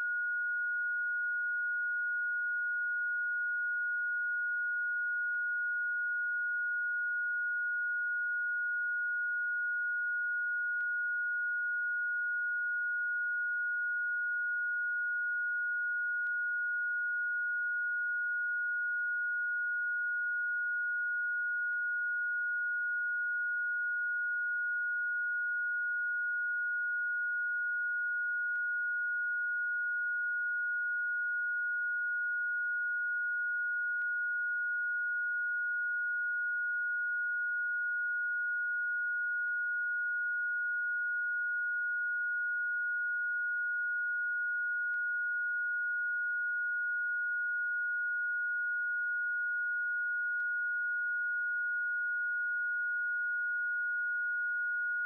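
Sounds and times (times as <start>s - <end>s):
high pitched sine tone: 0.0s - 55.0s.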